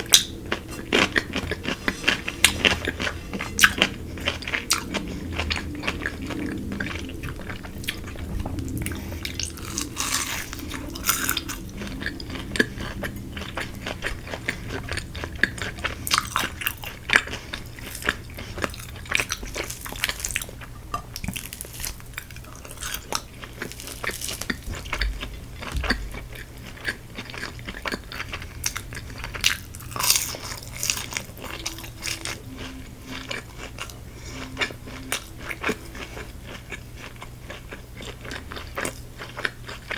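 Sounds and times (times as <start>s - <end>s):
person chewing crispy food: 0.0s - 39.9s.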